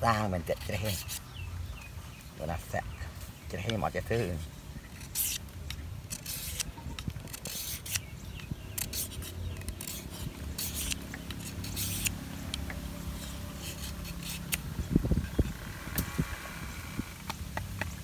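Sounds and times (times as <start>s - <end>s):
knife scraping bamboo: 0.0s - 18.0s.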